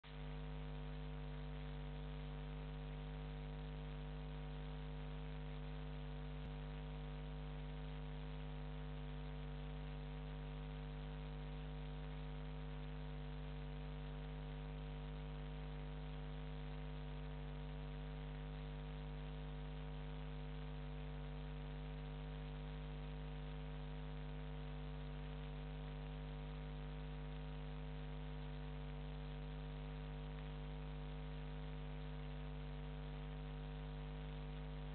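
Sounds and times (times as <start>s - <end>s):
electrical mains hum: 0.1s - 34.9s.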